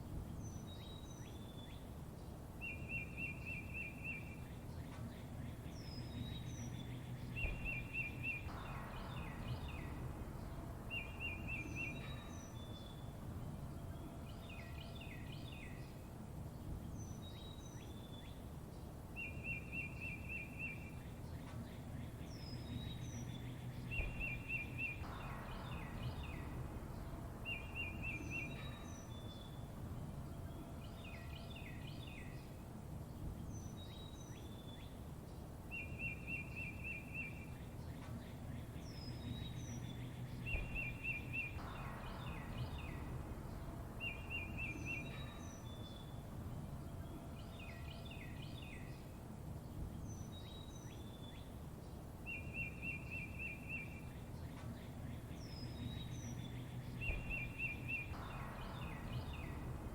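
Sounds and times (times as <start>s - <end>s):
low steady rumble: 0.0s - 59.9s
birds chirping and trilling: 0.2s - 59.9s.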